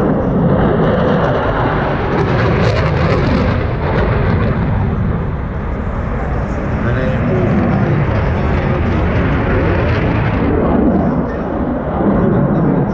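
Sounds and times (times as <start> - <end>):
military jet engine rumble: 0.0 - 12.9.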